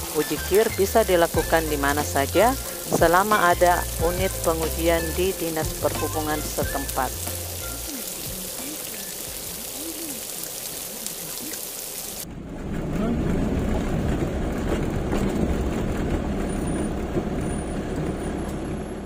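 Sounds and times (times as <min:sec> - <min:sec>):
bus diesel engine rumble: 0:00.0 - 0:11.6, 0:12.2 - 0:19.0
rain hissing: 0:00.0 - 0:18.7
road noise: 0:00.0 - 0:19.0.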